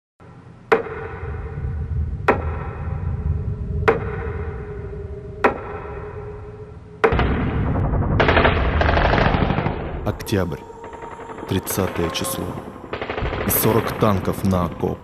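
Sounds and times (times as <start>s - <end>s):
low steady rumble: 0.6s - 14.8s.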